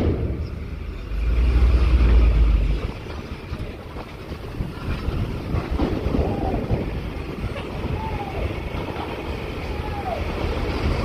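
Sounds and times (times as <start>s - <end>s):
bus engines rumbling: 0.0s - 11.0s
wind buffeting microphone: 0.0s - 11.0s.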